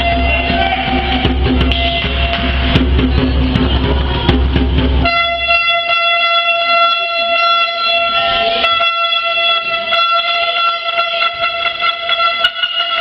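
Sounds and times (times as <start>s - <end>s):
long steady horn tone: 0.0s - 2.7s, 5.0s - 13.0s
music with steady bass: 0.0s - 13.0s.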